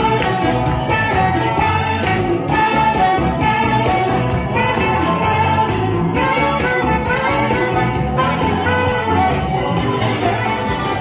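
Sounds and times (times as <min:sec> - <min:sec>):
alto saxophone playing: 0:00.0 - 0:11.0
dance music backing track: 0:00.0 - 0:11.0.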